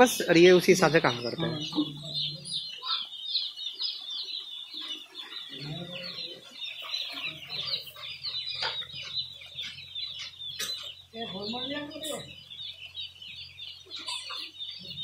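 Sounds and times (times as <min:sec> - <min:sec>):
chicks peeping in chorus: 0:00.0 - 0:15.0.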